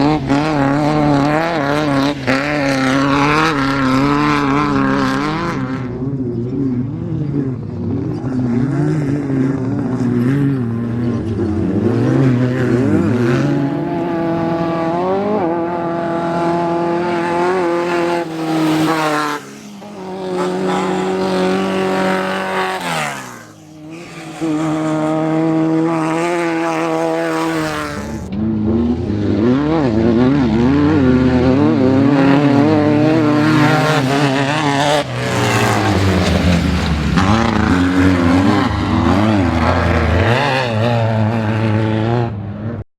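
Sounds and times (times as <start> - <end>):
race car engine revving: 0.0 - 42.8.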